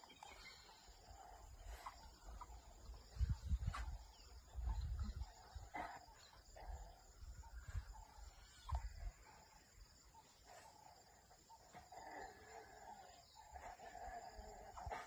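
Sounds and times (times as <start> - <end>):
faint animal calls: 0.0 - 15.0.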